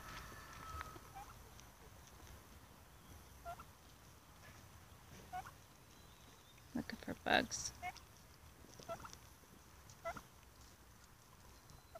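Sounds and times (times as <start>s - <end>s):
turkeys calling: 0.0s - 2.4s, 3.0s - 6.7s, 7.7s - 11.9s.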